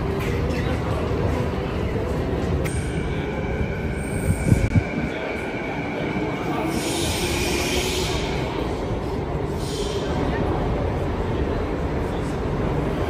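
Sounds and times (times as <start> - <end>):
train approaching through tunnel: 0.0 - 13.0.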